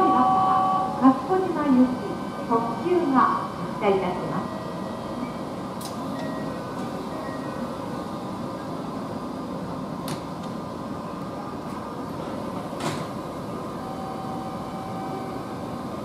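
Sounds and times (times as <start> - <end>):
train doors closing: 0.0 - 16.0
train equipment humming: 0.0 - 16.0.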